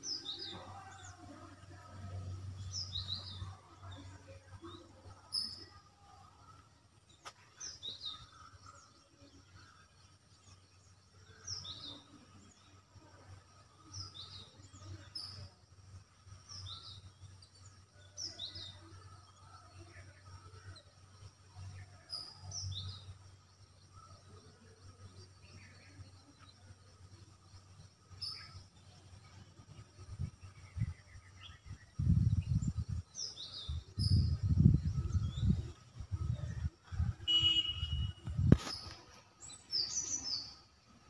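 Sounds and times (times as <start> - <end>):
bird chirping faintly: 0.0 - 41.0.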